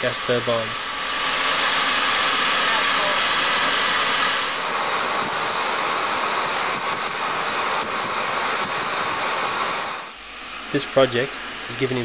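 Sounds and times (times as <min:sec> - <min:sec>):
jet engine rushing hiss: 0:00.0 - 0:12.0.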